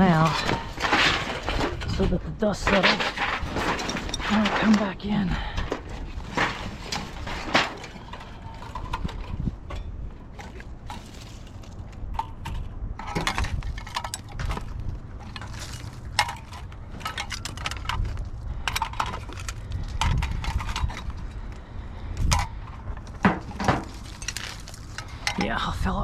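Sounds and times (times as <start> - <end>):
scrap metal clinking and clanking: 0.0 - 25.9.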